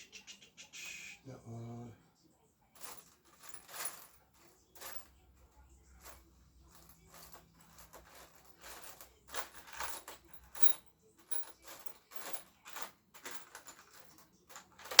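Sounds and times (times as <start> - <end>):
small metal parts clinking: 2.8 - 15.0.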